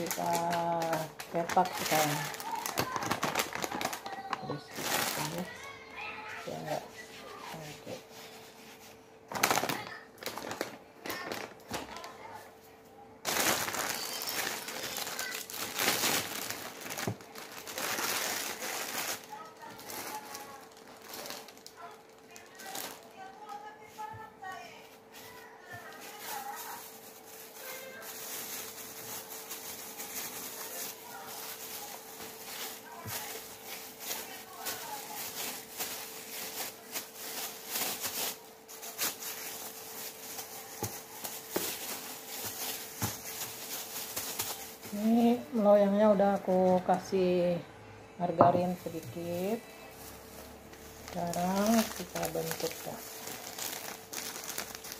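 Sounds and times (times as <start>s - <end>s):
plastic bag crinkling: 0.0s - 12.5s, 13.2s - 47.4s, 48.3s - 54.9s.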